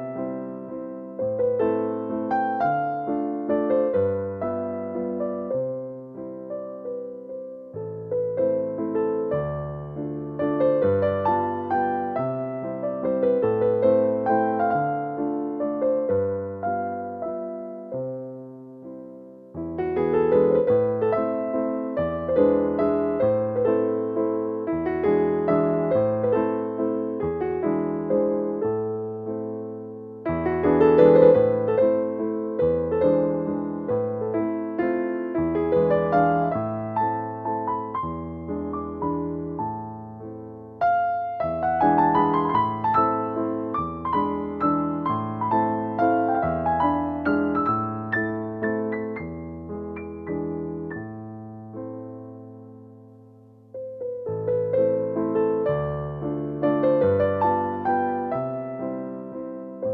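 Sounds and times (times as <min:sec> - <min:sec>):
gentle electric piano: 0:00.0 - 0:59.9.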